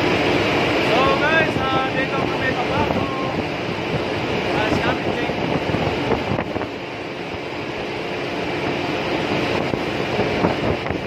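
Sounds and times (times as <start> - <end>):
engine room machinery noise: 0.0 - 11.0.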